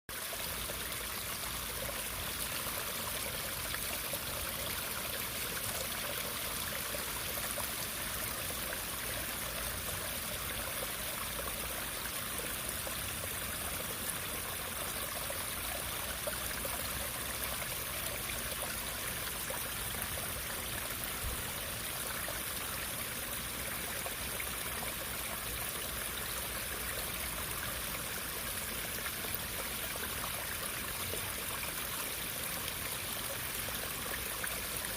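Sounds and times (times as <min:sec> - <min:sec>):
running water: 0:00.1 - 0:34.9.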